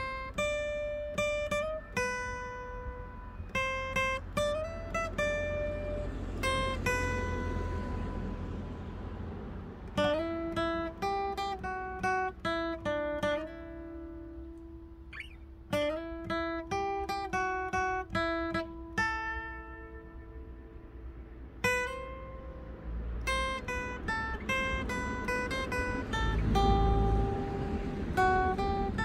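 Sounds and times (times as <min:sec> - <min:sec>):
acoustic guitar melody: 0:00.0 - 0:29.0.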